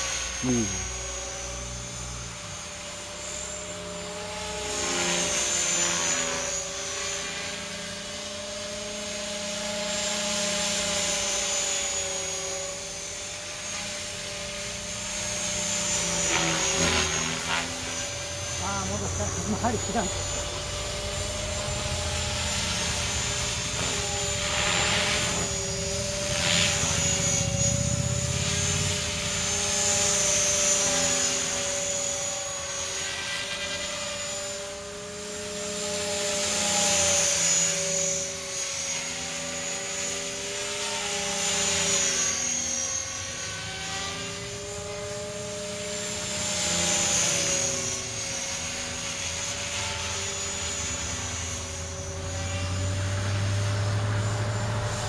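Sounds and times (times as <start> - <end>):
model helicopter motor whine: 0.0 - 55.0.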